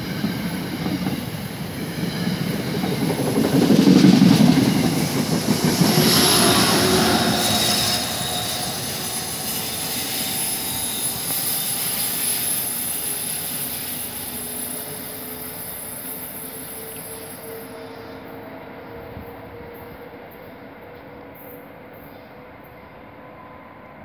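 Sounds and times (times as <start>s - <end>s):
high-speed train rushing past: 0.0s - 24.0s.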